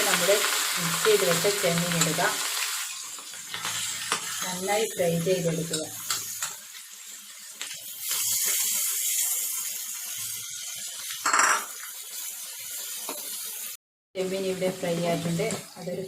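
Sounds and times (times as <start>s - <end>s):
prawns sizzling in hot oil: 0.0s - 16.0s.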